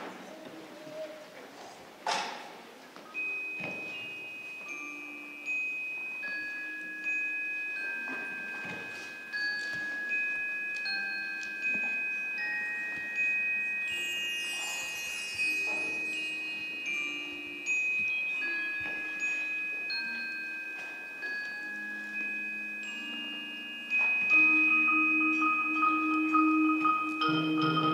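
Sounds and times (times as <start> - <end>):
mallet percussion bell-like notes: 3.2 - 27.9
wind chime sweep: 3.2 - 27.9.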